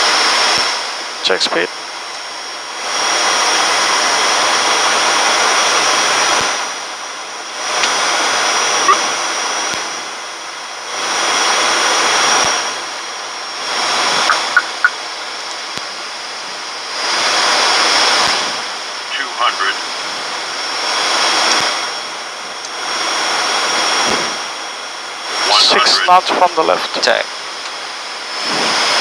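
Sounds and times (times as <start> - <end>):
turboprop engines whining: 0.0 - 29.0.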